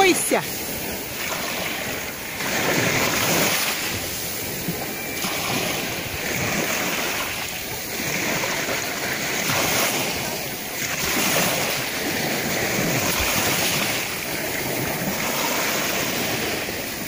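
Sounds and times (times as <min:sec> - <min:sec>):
waves washing on shore: 0:00.0 - 0:17.0.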